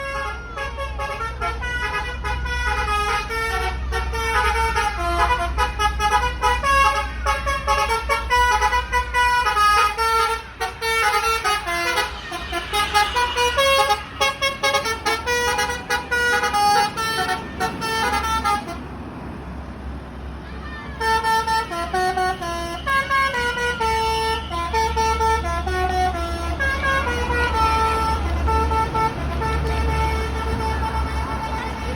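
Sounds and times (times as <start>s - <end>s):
multi-tone bus horn tune: 0.0s - 19.0s, 20.9s - 31.9s
bus engine idling: 0.0s - 31.9s.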